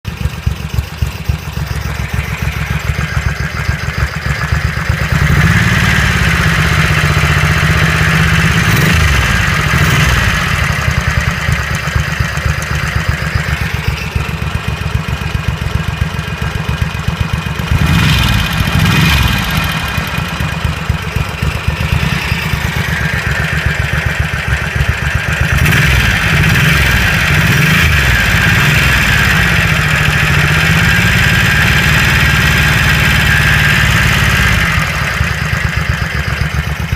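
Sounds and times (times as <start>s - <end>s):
engine idling and revving: 0.0s - 36.9s.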